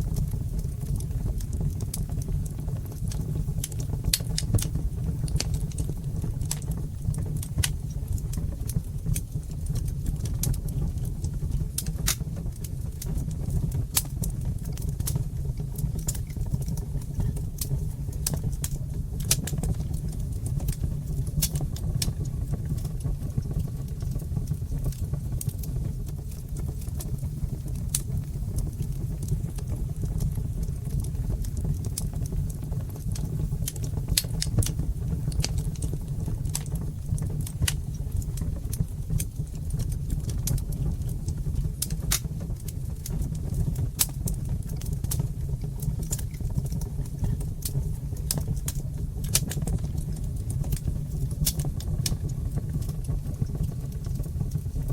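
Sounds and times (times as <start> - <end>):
fire crackling and popping: 0.0 - 54.9
fire rumbling: 0.0 - 54.9.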